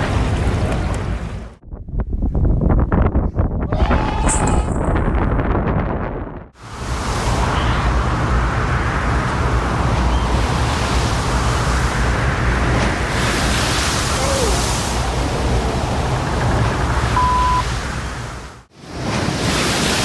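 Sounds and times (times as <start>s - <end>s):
strong wind on microphone: 1.5s - 18.4s.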